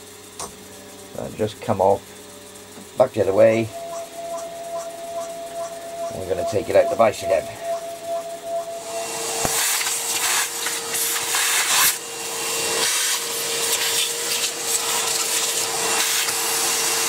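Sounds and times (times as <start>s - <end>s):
shop vacuum whine: 0.0s - 17.0s.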